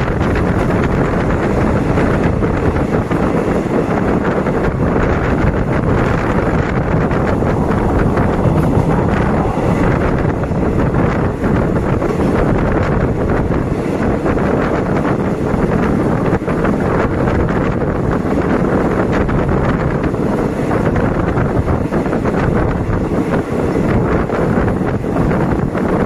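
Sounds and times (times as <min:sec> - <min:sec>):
train running noise: 0:00.0 - 0:26.0
wind buffeting microphone: 0:00.0 - 0:26.0.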